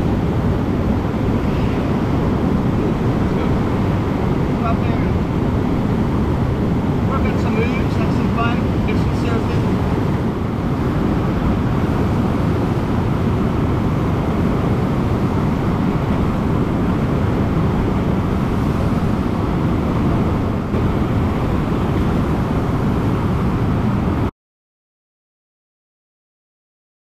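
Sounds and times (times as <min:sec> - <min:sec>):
river rapids rushing: 0:00.0 - 0:24.0.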